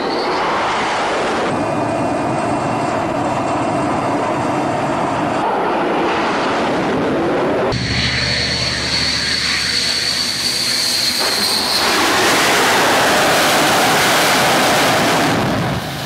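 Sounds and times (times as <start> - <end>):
jet engines whining and roaring: 0.0 - 16.0.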